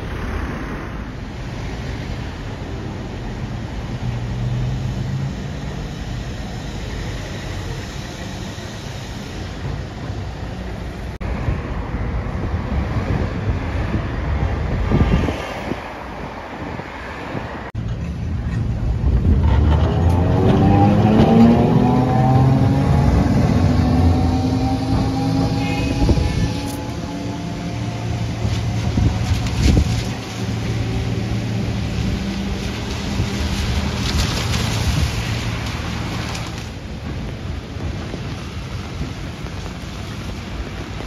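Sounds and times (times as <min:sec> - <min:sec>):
cars passing with low rumble: 0:00.0 - 0:41.0.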